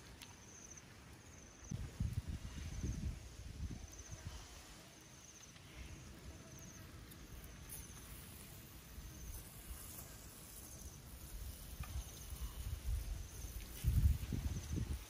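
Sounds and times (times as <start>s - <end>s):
insect chirping in high trills: 0.4s - 15.0s.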